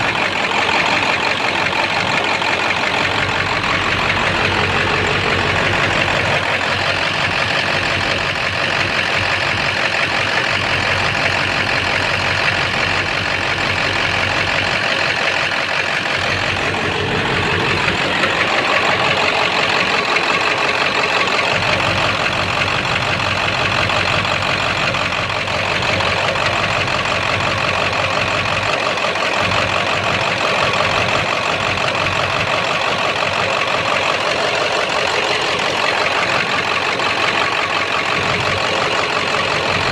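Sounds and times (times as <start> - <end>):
diesel engine idling roughly: 0.0 - 39.9
engine knocking: 0.0 - 39.9.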